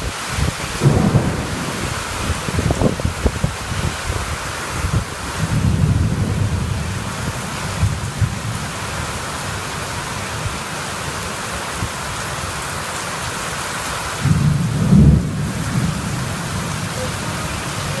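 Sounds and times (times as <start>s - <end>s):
thunder rumbles: 0.0s - 10.6s, 14.2s - 18.0s
heavy rain falling: 0.0s - 18.0s.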